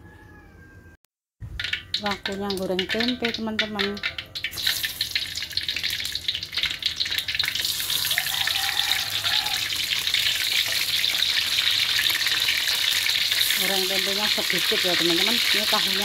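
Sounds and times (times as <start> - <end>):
food sizzling in hot oil: 1.4 - 16.0.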